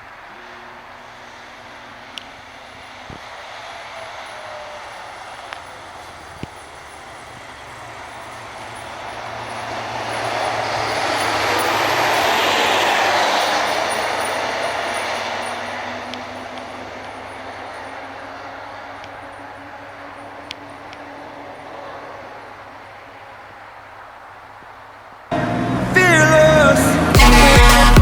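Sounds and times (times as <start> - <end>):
fire engine driving past: 0.0 - 28.0.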